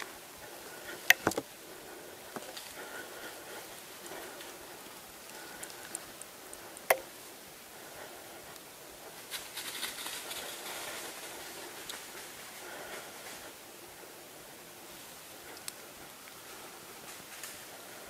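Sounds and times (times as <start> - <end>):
faint rustling: 0.0 - 18.0.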